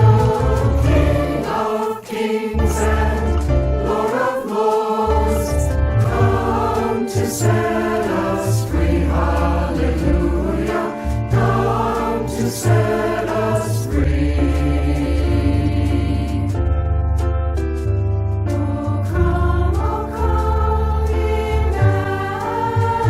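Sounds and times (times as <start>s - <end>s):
choir singing: 0.0s - 16.6s, 18.5s - 23.0s
instrumental accompaniment with bass: 0.0s - 23.0s.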